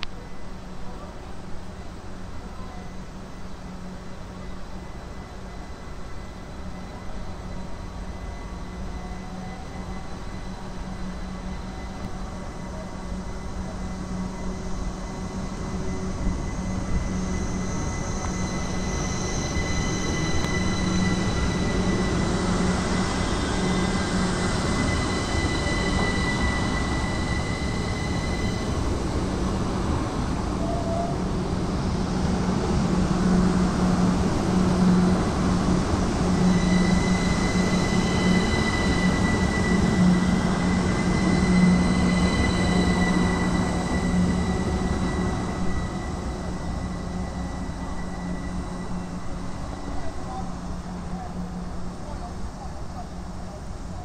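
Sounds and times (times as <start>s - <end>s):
train running past: 0.0s - 54.0s.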